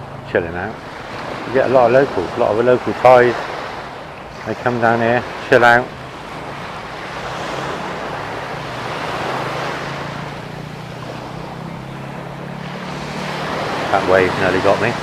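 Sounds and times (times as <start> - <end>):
low motor hum: 0.0 - 15.0
sea waves washing on sand: 0.3 - 15.0.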